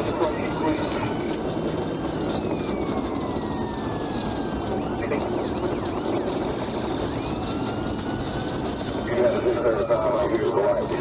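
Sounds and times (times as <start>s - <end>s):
police siren wailing and yelping: 0.0s - 11.0s
road and engine noise: 0.0s - 11.0s.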